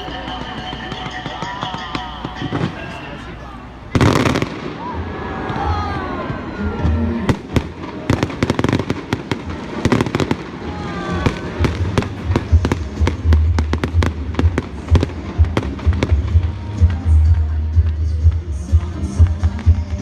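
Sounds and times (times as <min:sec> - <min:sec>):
fireworks bursting: 0:00.0 - 0:20.0
steady low rumble: 0:02.2 - 0:20.0.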